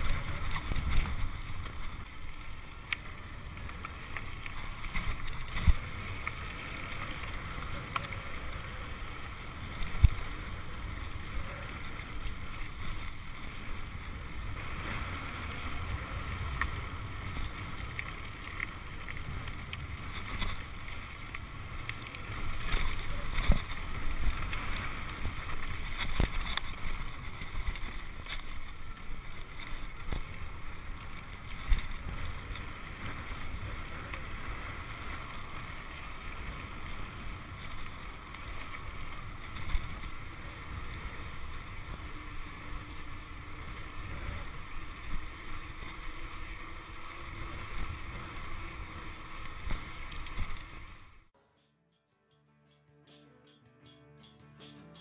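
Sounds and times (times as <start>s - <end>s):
wind rush on microphone: 0.0s - 51.2s.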